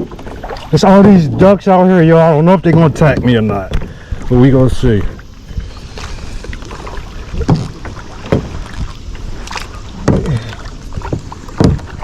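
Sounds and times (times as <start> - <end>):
kayak paddle splashing in water: 0.0 - 12.0
water noise: 0.0 - 12.0
wind noise: 0.0 - 12.0.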